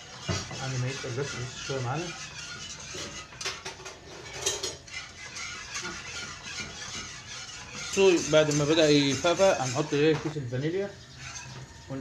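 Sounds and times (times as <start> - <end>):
spoon scraping saucepan: 0.0 - 12.0.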